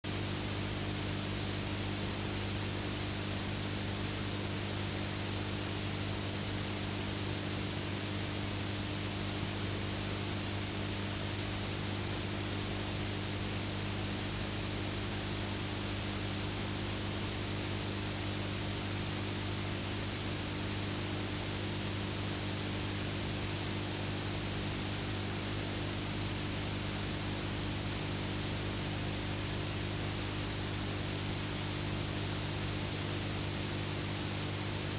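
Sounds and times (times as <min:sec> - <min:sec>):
low electrical hum: 0:00.1 - 0:34.9.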